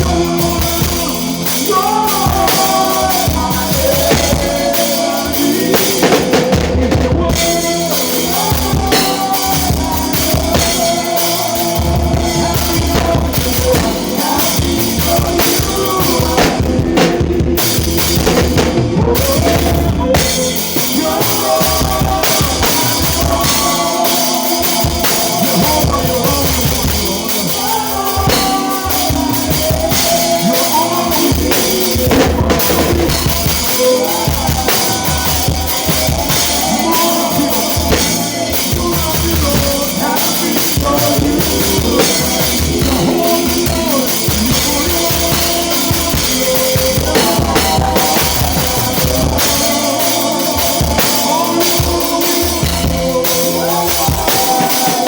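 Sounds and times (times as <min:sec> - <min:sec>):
drum kit beat: 0:00.0 - 0:55.0
live band playing: 0:00.0 - 0:55.0.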